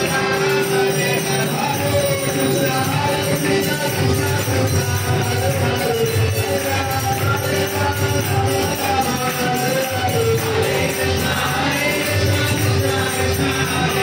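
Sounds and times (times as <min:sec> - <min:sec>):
hand cymbals jingling: 0:00.0 - 0:14.0.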